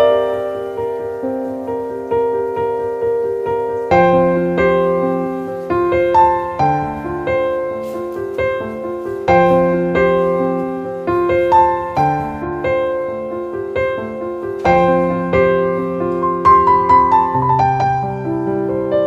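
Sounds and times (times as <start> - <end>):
gentle piano piece: 0.0 - 19.0.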